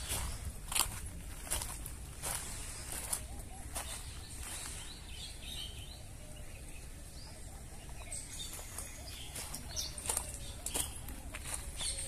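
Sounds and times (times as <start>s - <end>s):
footsteps: 0.0s - 5.1s, 7.3s - 12.0s
small birds chirping: 0.0s - 12.0s.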